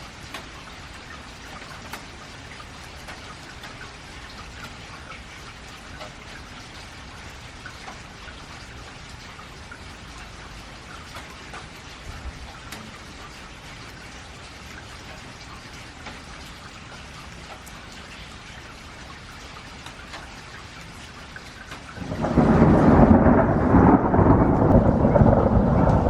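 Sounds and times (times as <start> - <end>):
rain on a metal roof: 0.0 - 26.0.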